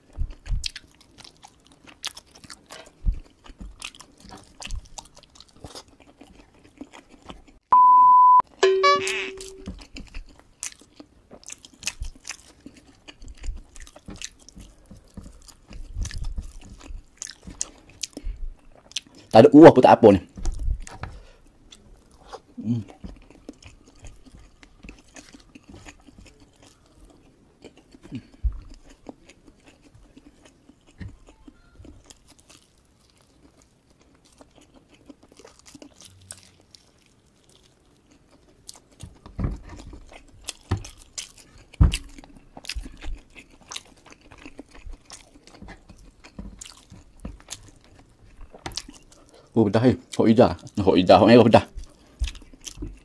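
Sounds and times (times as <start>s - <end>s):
crunchy chewing: 0.0s - 7.6s, 9.5s - 19.4s, 20.2s - 53.0s.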